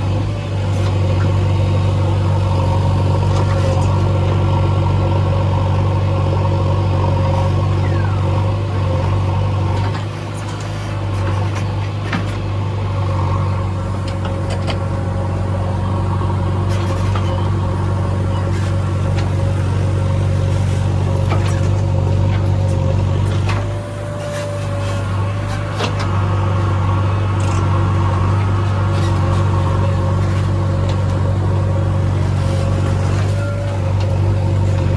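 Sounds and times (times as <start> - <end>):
diesel machinery engine humming: 0.0 - 34.9.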